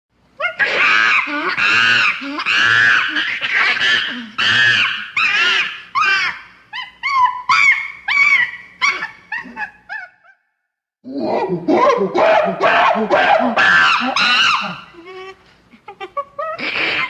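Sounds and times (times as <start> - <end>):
monkey screaming: 0.4 - 10.5, 11.2 - 15.3, 16.4 - 17.0.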